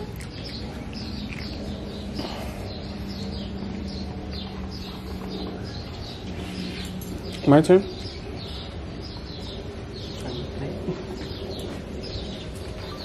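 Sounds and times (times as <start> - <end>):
bird chirping: 0.0 - 13.0
low hum: 0.0 - 13.0.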